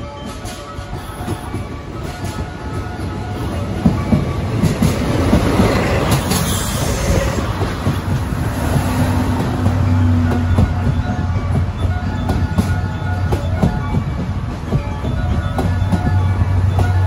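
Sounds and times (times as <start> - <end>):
locomotive passing: 0.0 - 17.0
wheels clicking over rail joints: 0.0 - 17.0.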